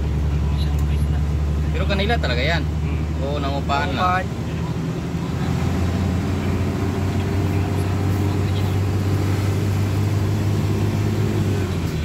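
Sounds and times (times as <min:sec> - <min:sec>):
vehicle engine drone and road noise: 0:00.0 - 0:12.0.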